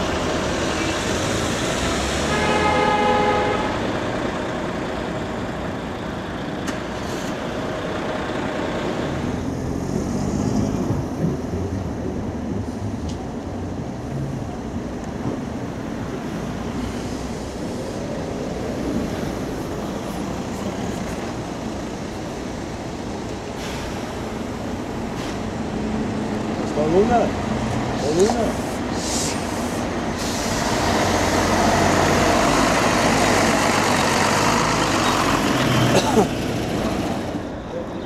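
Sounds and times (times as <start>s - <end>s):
bus and car engines passing: 0.0s - 38.0s.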